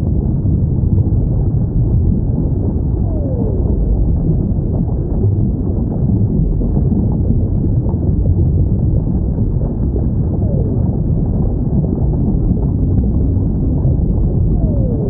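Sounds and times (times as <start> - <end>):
low underwater rumble: 0.0 - 15.0.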